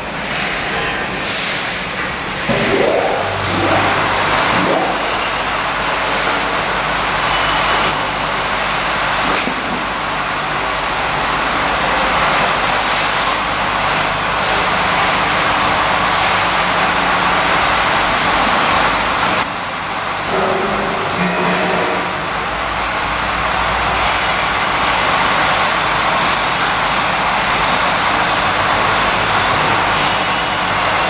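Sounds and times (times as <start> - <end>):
milling machine running: 0.0 - 31.0.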